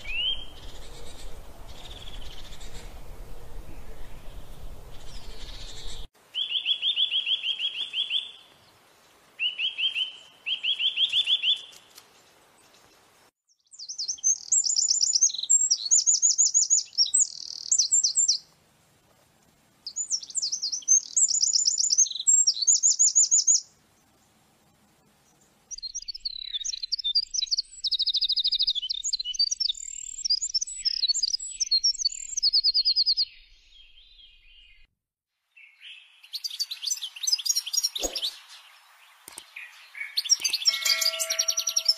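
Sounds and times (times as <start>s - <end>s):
songbirds trilling and chirping: 0.0s - 18.5s, 19.8s - 34.9s, 35.6s - 41.9s.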